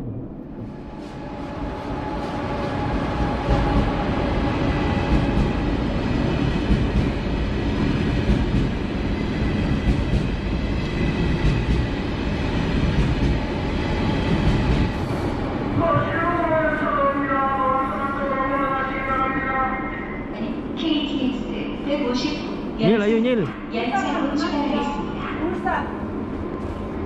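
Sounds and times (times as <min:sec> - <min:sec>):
train rumbling on tracks: 0:00.0 - 0:27.0.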